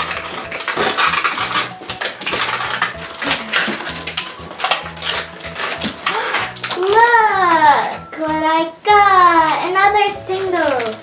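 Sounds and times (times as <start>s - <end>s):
plastic packaging crinkling: 0.0s - 8.1s, 9.2s - 11.0s.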